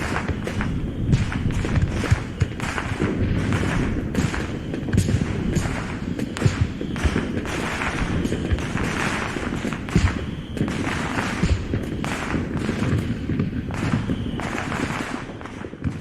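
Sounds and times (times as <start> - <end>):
booming firework bursts: 0.0 - 16.0
crackling firework bursts: 0.0 - 16.0.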